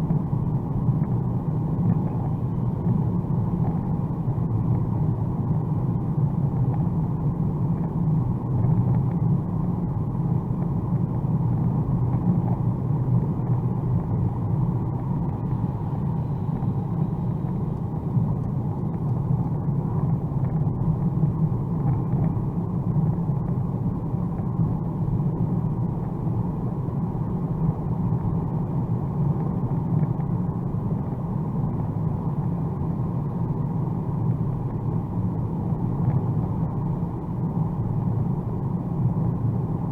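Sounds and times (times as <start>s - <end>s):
car engine at speed: 0.0s - 39.9s.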